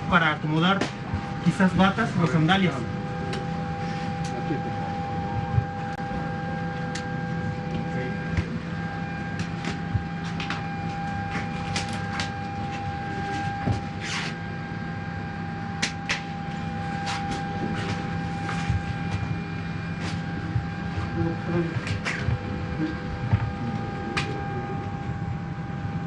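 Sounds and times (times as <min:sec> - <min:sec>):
airliner cabin hum: 0:00.0 - 0:26.0
constant whine: 0:00.0 - 0:26.0.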